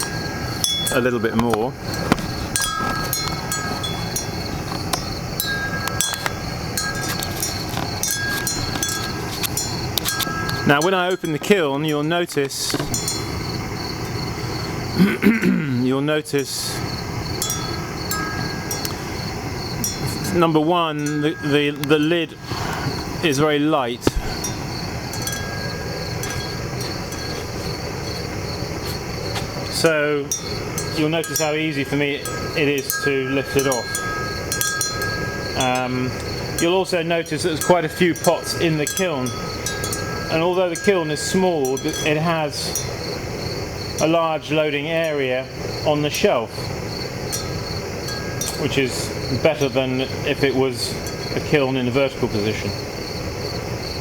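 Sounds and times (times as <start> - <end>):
torch flame rushing: 0.0 - 11.7, 12.4 - 15.2, 16.3 - 44.9, 45.5 - 51.6
light high ticks: 0.0 - 13.3, 16.8 - 43.2, 46.6 - 50.2
ringing chime-like tones: 0.0 - 14.8, 16.8 - 46.3, 47.1 - 52.0
faint clinks: 0.0 - 15.6, 16.3 - 53.9
pulsing insect trill: 0.0 - 54.0.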